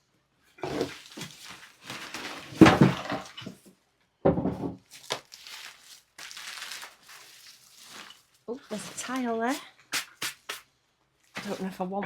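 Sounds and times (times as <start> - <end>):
rubbish being rummaged: 0.6 - 3.7, 4.3 - 10.2, 11.2 - 12.0.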